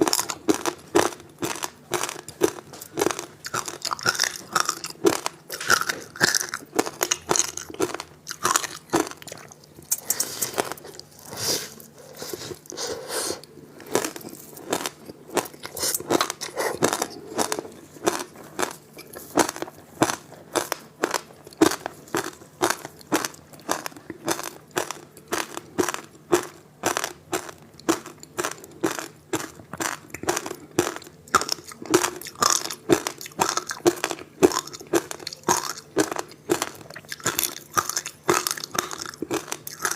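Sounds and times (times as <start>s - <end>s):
teeth crunching ice: 0.0s - 11.3s, 13.4s - 39.9s.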